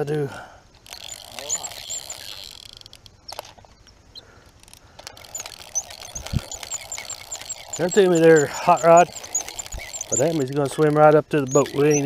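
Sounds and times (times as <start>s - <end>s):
faint clicks: 0.7s - 12.0s
small bird chirping: 0.9s - 12.0s.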